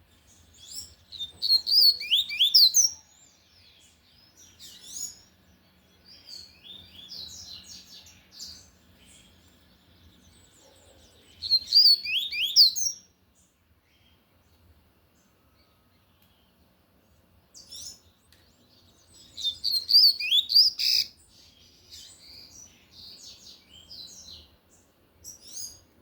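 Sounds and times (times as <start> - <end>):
bird singing whistled notes: 0.1 - 14.2, 17.6 - 25.9.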